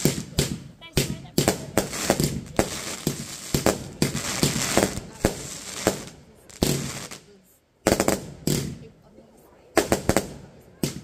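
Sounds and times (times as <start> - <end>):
fireworks bangs: 0.0 - 9.0, 9.6 - 11.0
fireworks crackling: 0.0 - 11.0.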